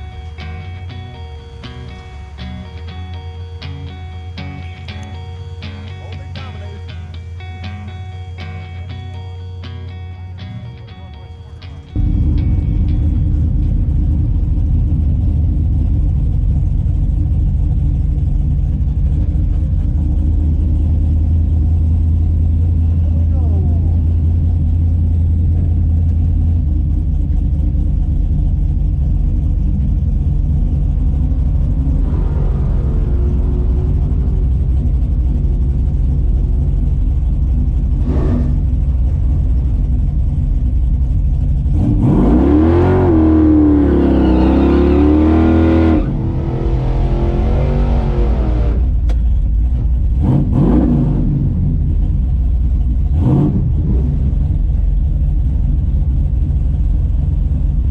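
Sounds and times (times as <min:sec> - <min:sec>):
drag car engine idling and revving: 0:00.0 - 0:57.9.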